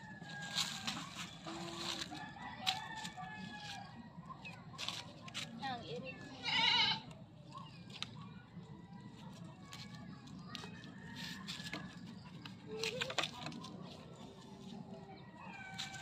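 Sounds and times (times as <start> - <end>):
twigs and leaves rustling: 0.0 - 6.2, 9.2 - 16.0.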